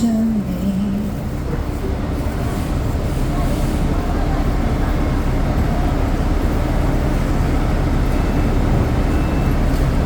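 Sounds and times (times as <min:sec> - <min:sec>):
low rumble of urban noise: 0:00.0 - 0:10.0.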